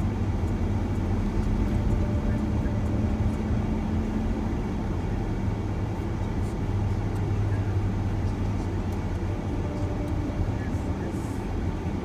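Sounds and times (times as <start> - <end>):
van road and engine noise: 0.0 - 12.0.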